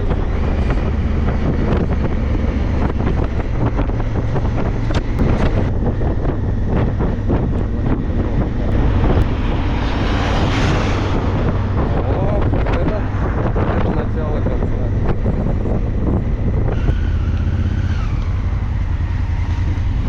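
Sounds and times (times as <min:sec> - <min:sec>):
motorcycle engine drone: 0:00.0 - 0:20.0
wind buffeting microphone: 0:00.0 - 0:20.0.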